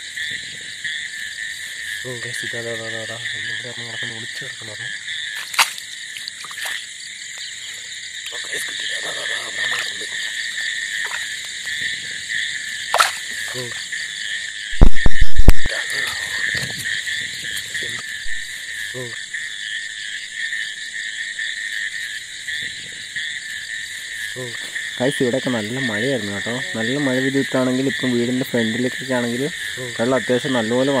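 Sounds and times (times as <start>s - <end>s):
frog croaks: 0.0s - 31.0s
frogs and crickets trilling: 0.0s - 31.0s.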